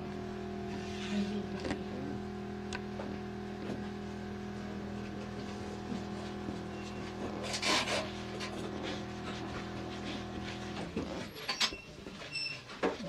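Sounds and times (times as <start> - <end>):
machine hum: 0.0 - 11.4.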